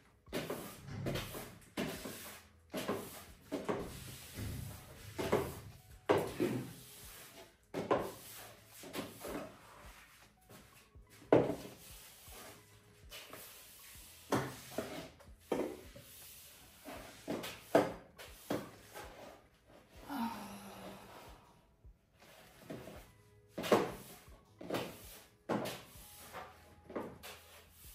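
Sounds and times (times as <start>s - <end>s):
mop rubbing across floor: 0.0s - 20.0s, 20.8s - 21.6s, 22.2s - 27.9s.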